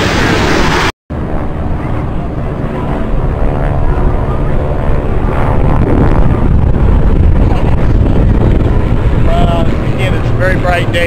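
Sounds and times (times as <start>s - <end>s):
propeller aircraft droning: 0.0s - 11.0s
wind on microphone: 0.0s - 11.0s.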